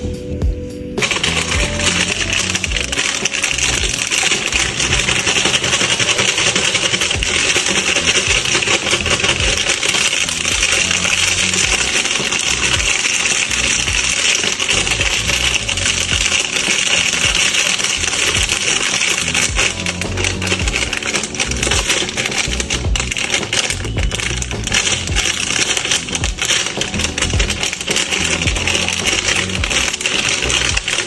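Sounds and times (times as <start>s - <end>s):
snack wrappers crinkling: 1.0s - 31.0s.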